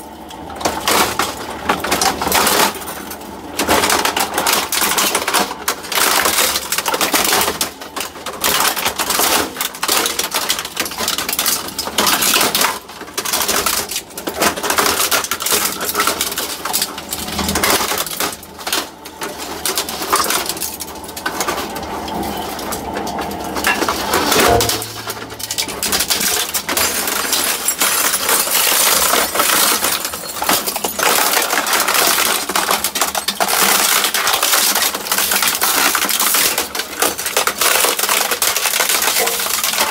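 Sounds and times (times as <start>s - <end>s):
shredder crunching plastic and metal: 0.0s - 39.9s.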